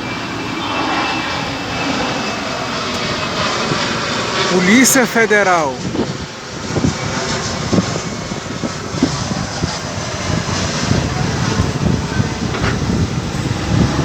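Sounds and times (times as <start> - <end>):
aircraft engine rumble: 0.0 - 14.0.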